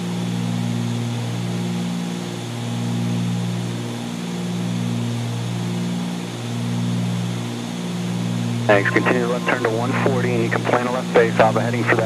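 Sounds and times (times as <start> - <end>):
propeller plane cabin drone: 0.0 - 12.0.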